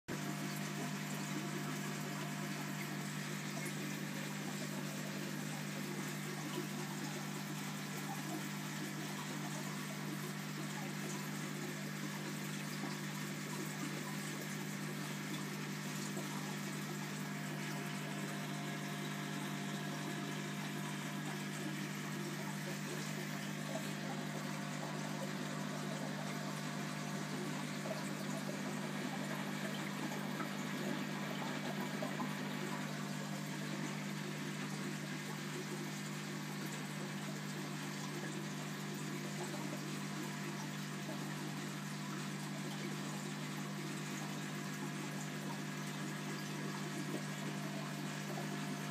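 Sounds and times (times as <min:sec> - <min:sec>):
moving water: 0:00.1 - 0:48.9
pump humming: 0:00.1 - 0:48.9.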